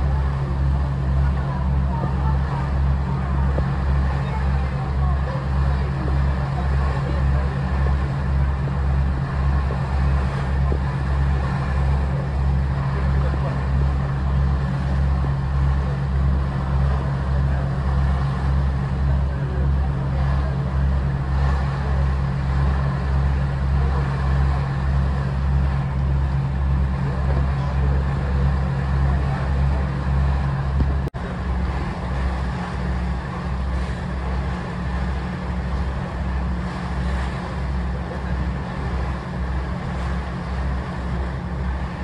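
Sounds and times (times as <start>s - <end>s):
boat engine humming: 0.0s - 42.0s
water rushing past hull: 0.0s - 42.0s.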